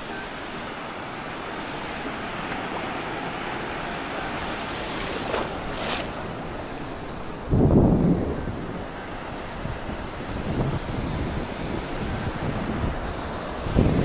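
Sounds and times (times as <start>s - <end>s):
sea surf washing on shore: 0.0s - 14.0s
wind: 0.0s - 14.0s.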